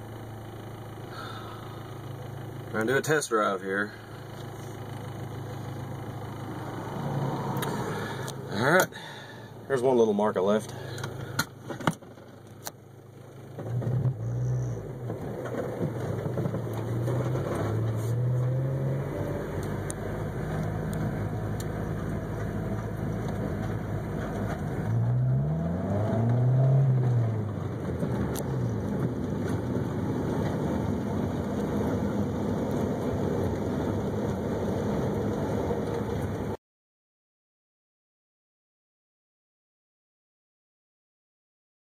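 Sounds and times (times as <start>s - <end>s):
car engine accelerating: 0.0s - 36.6s
road noise: 0.0s - 36.6s.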